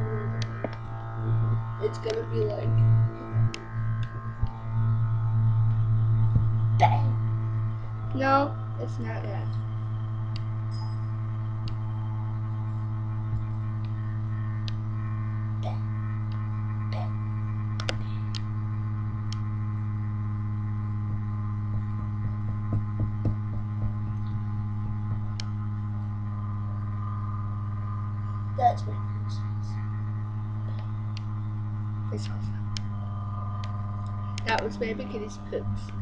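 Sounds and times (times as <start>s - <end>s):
buzzy electrical hum: 0.0s - 36.0s.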